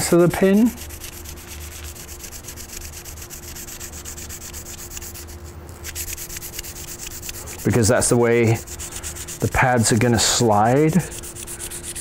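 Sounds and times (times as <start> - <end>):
sandpaper scratching on metal pin: 0.0 - 12.0.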